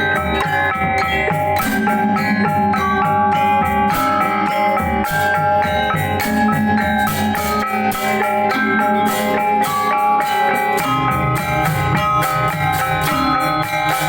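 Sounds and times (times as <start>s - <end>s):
drums: 0.0s - 14.0s
metallophones ringing: 0.0s - 14.0s.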